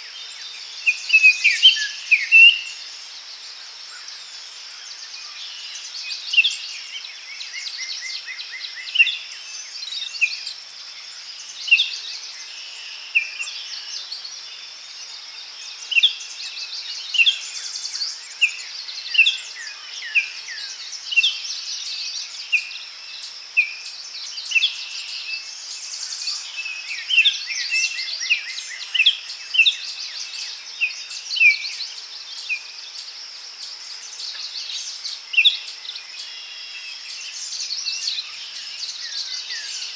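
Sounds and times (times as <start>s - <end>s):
birds calling and singing: 0.0s - 39.9s.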